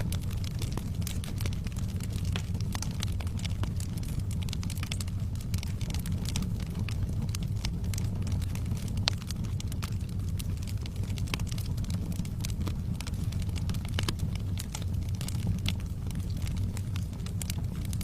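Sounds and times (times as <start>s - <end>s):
low rumble: 0.0s - 18.0s
wood fire crackling: 0.0s - 18.0s.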